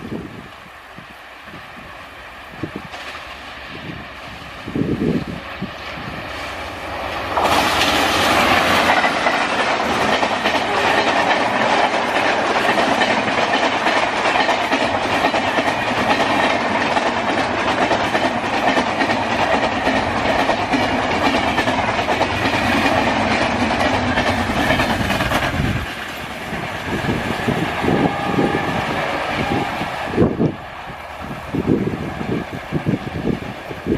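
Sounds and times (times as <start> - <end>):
train wheels clattering on rails: 2.6 - 33.9.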